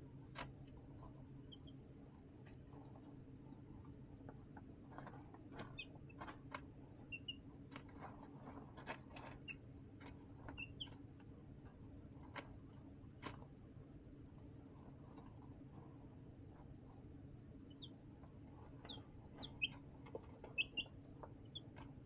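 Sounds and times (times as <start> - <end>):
chicks pecking and scratching: 0.0 - 22.0
steady low hum: 0.0 - 22.0
soft chick peeps: 0.4 - 11.3, 14.6 - 22.0.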